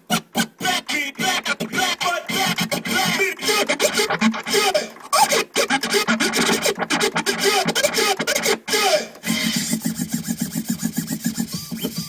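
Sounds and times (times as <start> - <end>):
vinyl scratching: 0.0 - 12.0
hip hop track with steady beat: 0.1 - 12.0.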